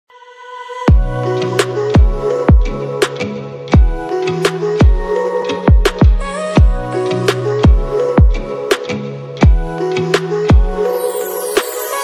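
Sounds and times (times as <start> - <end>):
background music with beat: 0.9 - 12.0.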